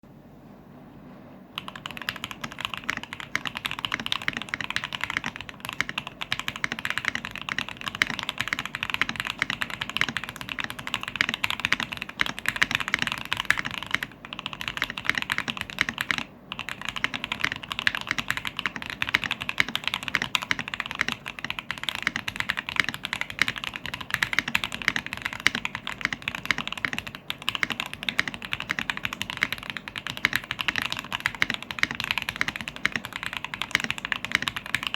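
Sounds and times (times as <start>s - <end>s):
fast mechanical keyboard typing: 1.6s - 34.9s.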